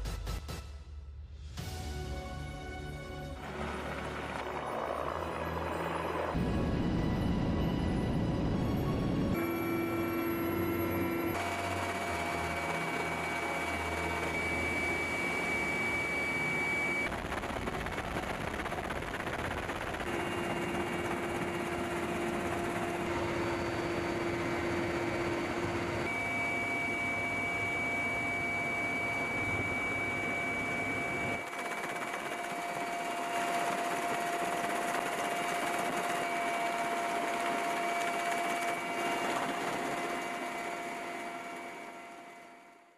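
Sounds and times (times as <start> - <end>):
aircraft engine drone: 1.6 - 42.9.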